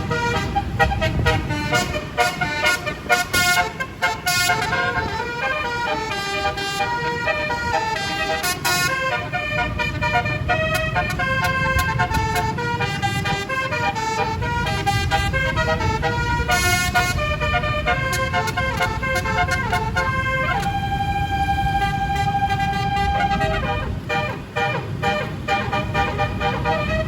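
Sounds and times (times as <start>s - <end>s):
multi-tone bus horn tune: 0.0s - 27.0s
steady low rumble: 0.0s - 27.0s.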